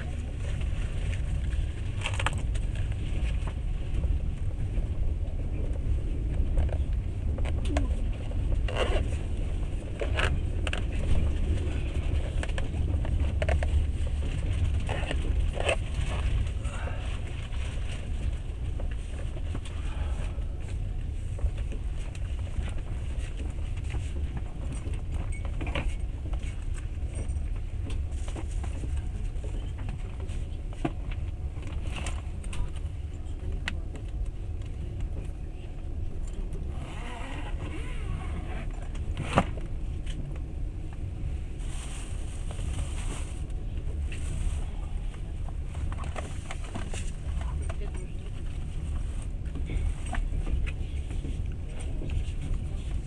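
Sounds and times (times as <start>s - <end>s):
train rumbling inside carriage: 0.0s - 53.0s.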